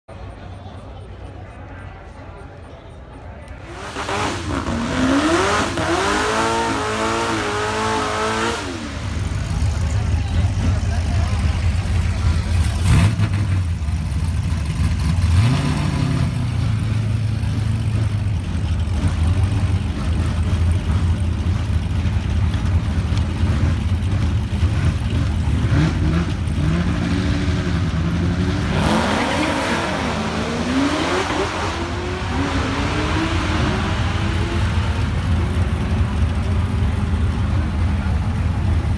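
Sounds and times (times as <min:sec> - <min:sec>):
car engine idling and revving: 0:03.5 - 0:38.9.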